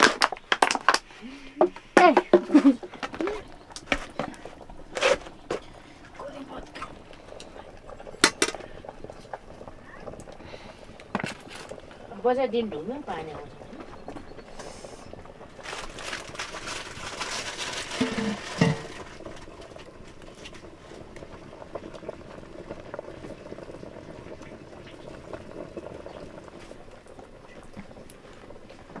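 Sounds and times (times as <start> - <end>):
pot boiling and bubbling: 0.0 - 29.0.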